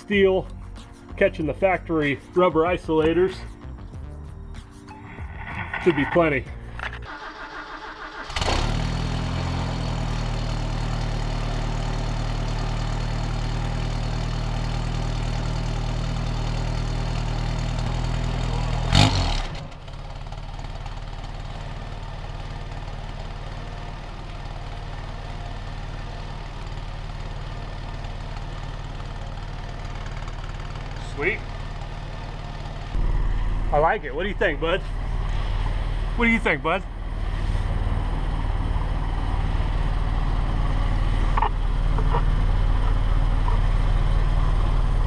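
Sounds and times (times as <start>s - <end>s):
engine idling: 5.1s - 45.0s.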